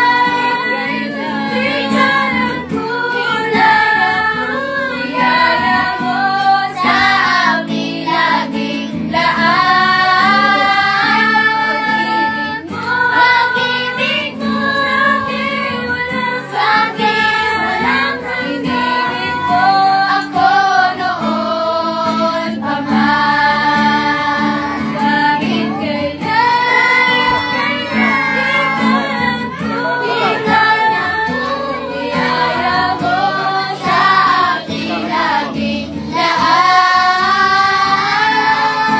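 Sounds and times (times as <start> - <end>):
group singing worship song: 0.0 - 38.9
strummed acoustic guitar: 0.0 - 38.9.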